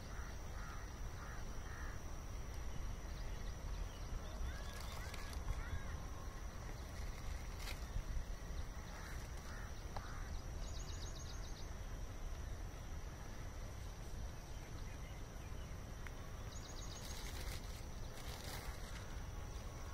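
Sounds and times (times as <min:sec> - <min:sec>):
steady high whine: 0:00.0 - 0:19.9.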